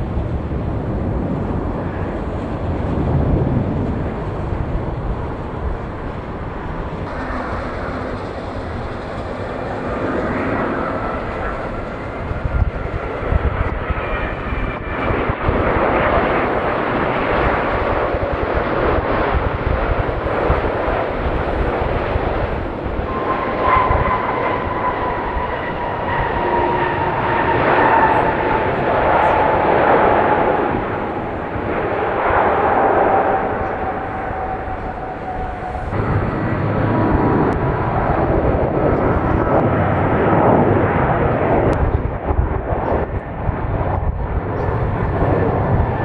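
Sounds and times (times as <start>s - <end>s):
jet engines at takeoff: 0.0s - 46.0s.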